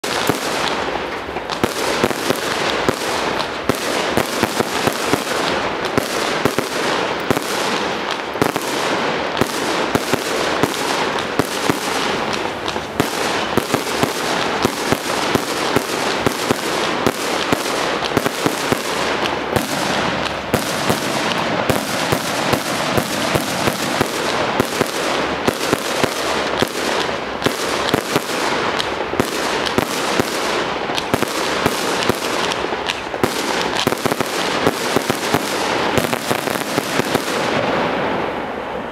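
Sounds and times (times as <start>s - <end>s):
crackling hiss of burning stars: 0.0s - 38.9s
firework bursts: 0.0s - 38.9s.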